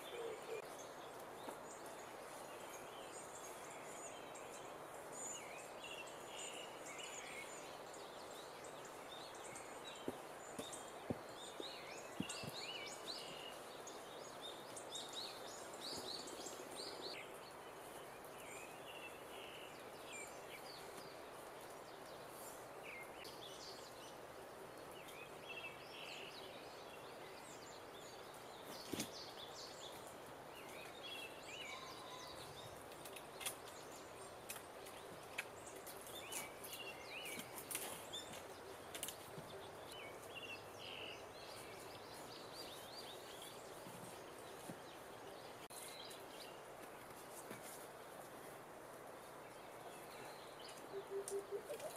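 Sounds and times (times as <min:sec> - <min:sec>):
background hiss: 0:00.0 - 0:51.9
birds chirping: 0:00.0 - 0:51.9.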